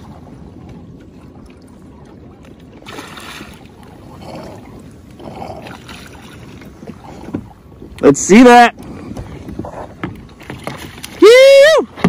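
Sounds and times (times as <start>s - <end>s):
open water ambience: 0.0s - 12.0s
wind rumbling on microphone: 0.0s - 12.0s.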